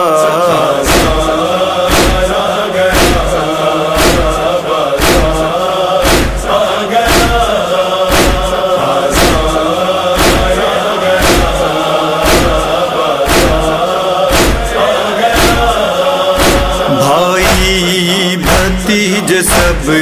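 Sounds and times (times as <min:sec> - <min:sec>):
heavy rhythmic thumps: 0:00.0 - 0:20.0
voices chanting a lament: 0:00.0 - 0:20.0.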